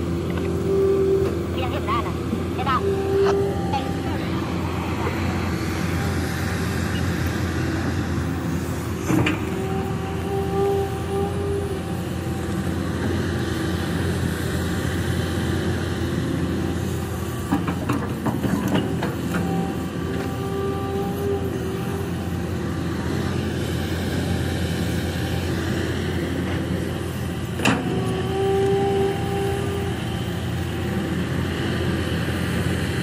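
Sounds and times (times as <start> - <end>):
diesel engine drone: 0.0 - 33.0
hydraulic whine: 0.0 - 33.0.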